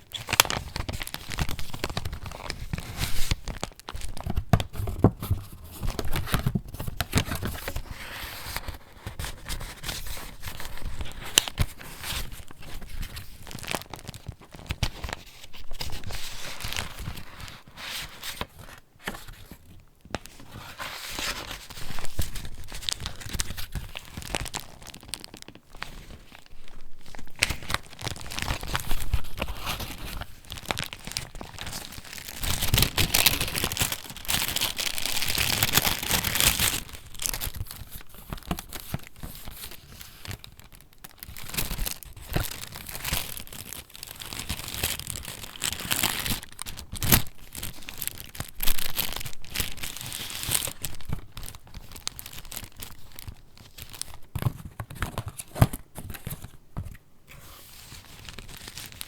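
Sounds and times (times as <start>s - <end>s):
paper pages rustling and crinkling: 0.0s - 59.0s.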